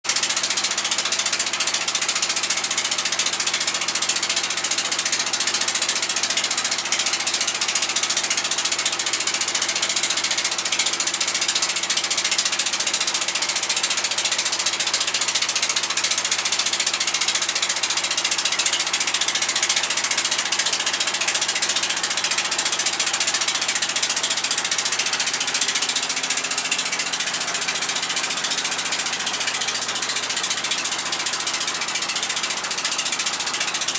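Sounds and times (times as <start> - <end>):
boat engine clattering: 0.1 - 33.9.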